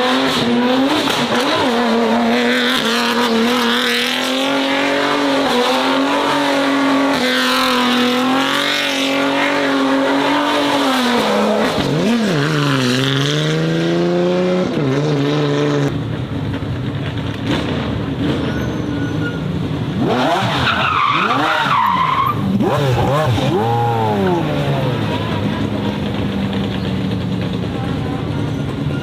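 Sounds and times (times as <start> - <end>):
racing car engine at high revs: 0.0 - 29.0
rough car engine revving: 0.0 - 29.0.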